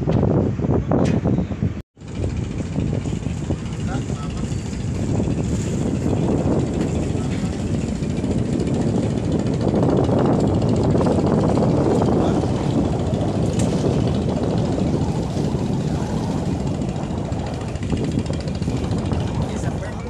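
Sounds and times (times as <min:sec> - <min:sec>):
ship engines rumbling: 0:01.5 - 0:20.0
rushing water noise: 0:02.5 - 0:20.0.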